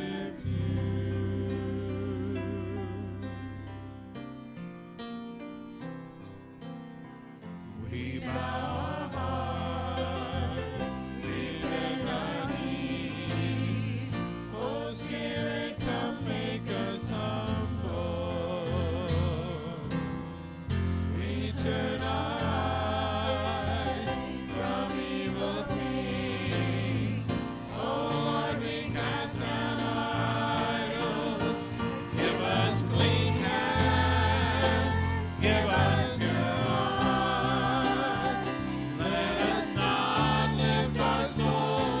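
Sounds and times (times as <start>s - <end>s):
gospel choir singing: 0.0s - 4.0s, 7.6s - 42.0s
instrumental accompaniment with bass: 0.0s - 6.7s, 7.9s - 42.0s.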